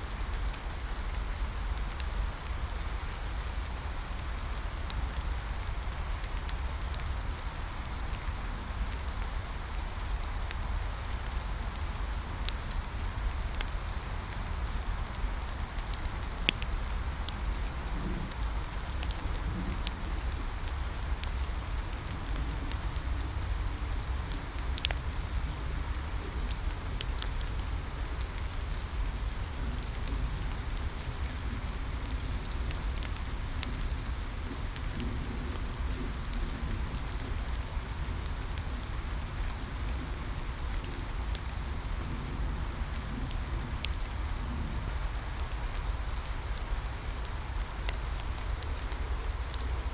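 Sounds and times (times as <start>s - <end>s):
steady rain falling: 0.0s - 49.9s
bonfire popping and crackling: 0.2s - 49.9s.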